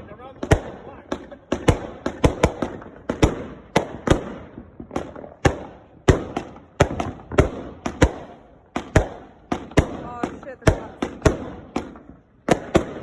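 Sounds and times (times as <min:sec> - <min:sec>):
firework bangs with echo: 0:00.0 - 0:13.0.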